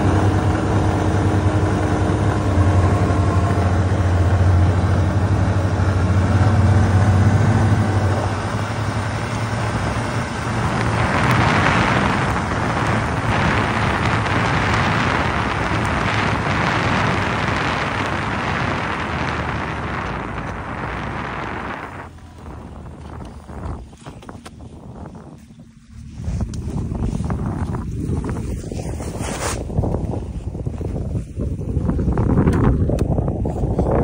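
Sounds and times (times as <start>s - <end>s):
rush of wind and snow: 0.0s - 34.0s
snowmobile engine hum: 0.0s - 34.0s.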